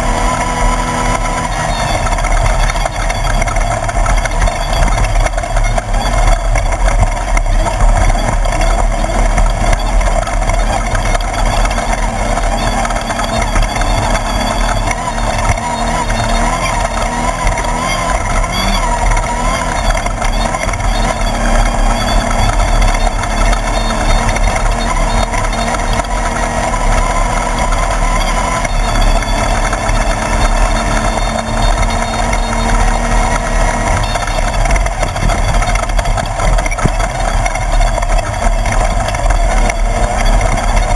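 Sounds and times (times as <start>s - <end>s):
race buggy engine running: 0.0s - 40.9s.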